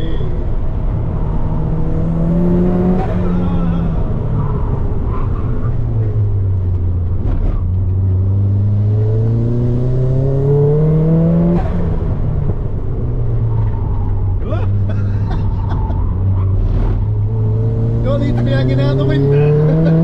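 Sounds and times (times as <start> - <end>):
turbocharged car engine accelerating: 0.0 - 14.8, 15.8 - 20.0.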